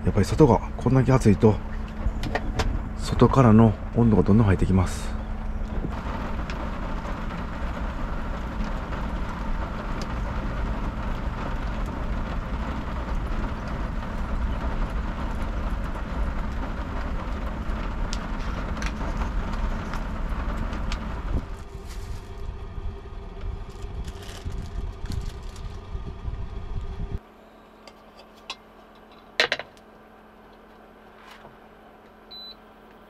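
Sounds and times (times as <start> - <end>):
air conditioner humming: 0.0 - 33.0.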